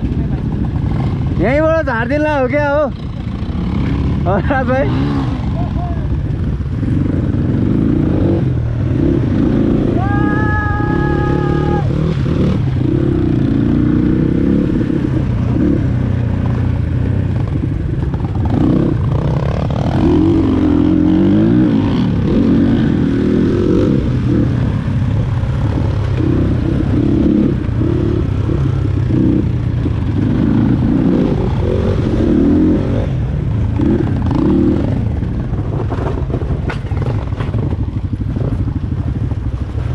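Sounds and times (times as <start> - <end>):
dirt bike engine revving: 0.6 - 38.8.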